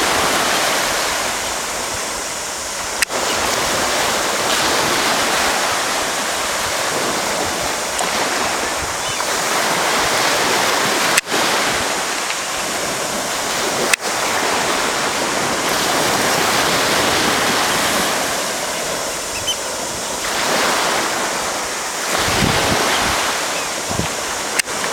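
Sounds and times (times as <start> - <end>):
surf washing onto beach: 0.0 - 24.9.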